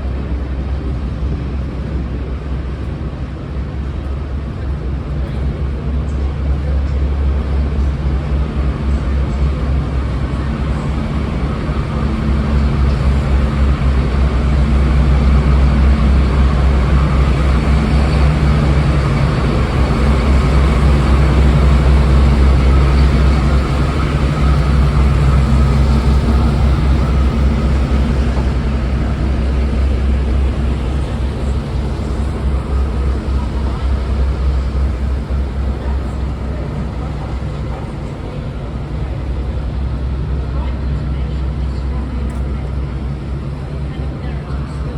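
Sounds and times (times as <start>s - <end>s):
diesel locomotive engines droning: 0.0s - 44.9s.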